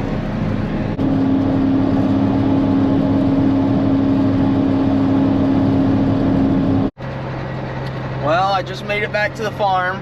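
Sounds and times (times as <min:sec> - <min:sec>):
tractor diesel engine droning: 0:00.0 - 0:10.0.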